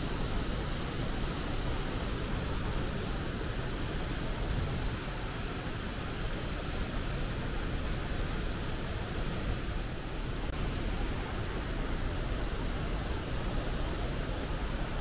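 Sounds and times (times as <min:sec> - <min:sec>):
rushing water from dam outlet: 0:00.0 - 0:15.0.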